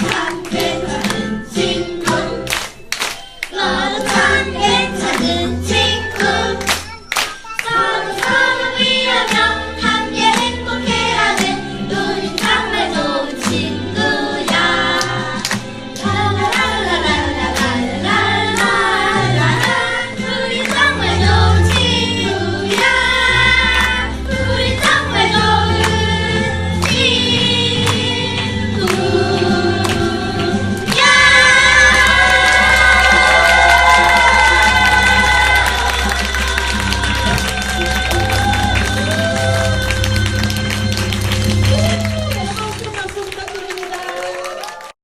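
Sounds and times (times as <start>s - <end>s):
group singing in chorus: 0.0s - 2.7s, 3.5s - 6.7s, 7.7s - 41.8s
instrumental accompaniment with beat: 0.0s - 42.8s.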